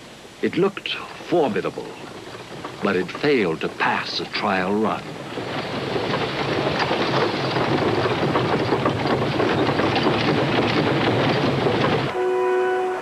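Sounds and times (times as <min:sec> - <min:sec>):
rushing noise with crackles: 0:00.0 - 0:12.2.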